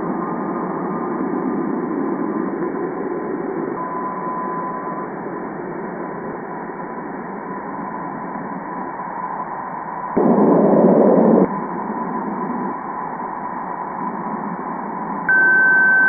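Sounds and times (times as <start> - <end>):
faint steady tone: 0.0 - 16.0.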